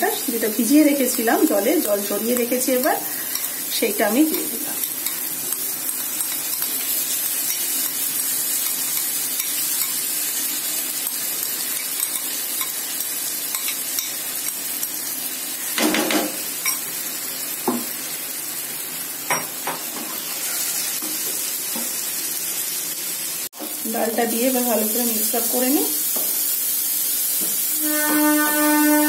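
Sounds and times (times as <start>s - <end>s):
lentils sizzling in hot oil: 0.0s - 29.0s.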